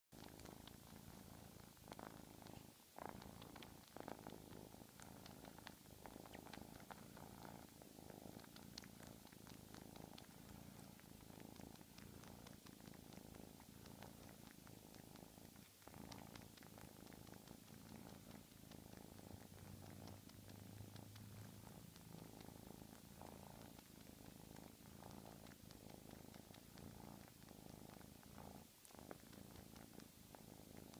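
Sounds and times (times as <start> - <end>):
kitten purring: 0.1 - 30.9
small clicks of kneading: 0.1 - 30.9.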